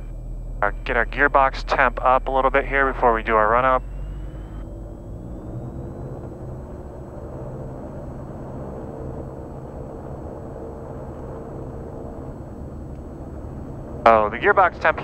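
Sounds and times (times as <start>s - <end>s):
aircraft engines running: 0.0s - 15.0s.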